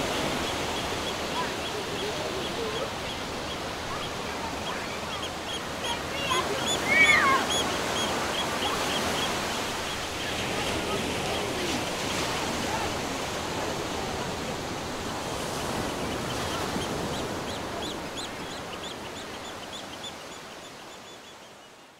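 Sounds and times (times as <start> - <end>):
sea surf rushing: 0.0 - 21.2.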